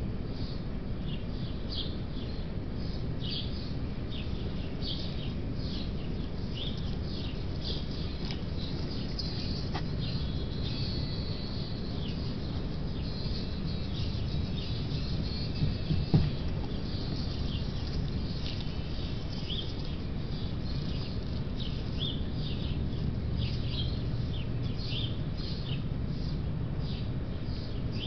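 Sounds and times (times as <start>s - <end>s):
low background noise: 0.0s - 28.0s
small birds chirping: 0.4s - 28.0s.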